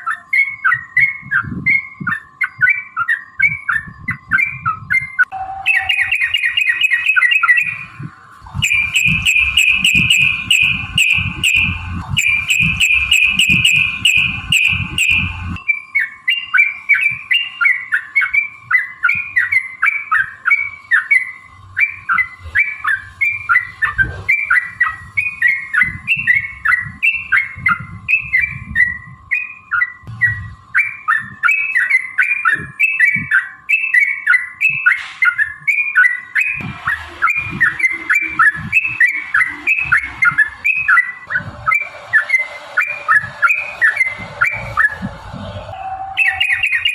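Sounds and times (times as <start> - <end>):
bird singing trills and chatter: 0.0 - 46.9.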